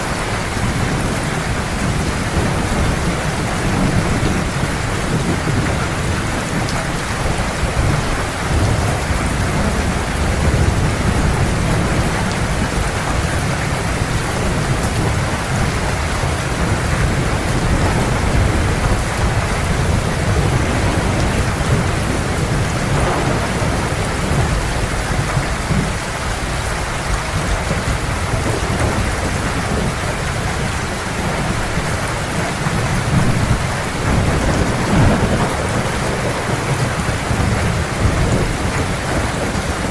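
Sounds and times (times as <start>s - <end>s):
heavy rain falling: 0.0s - 39.9s
low thunder rumbling: 0.0s - 39.9s.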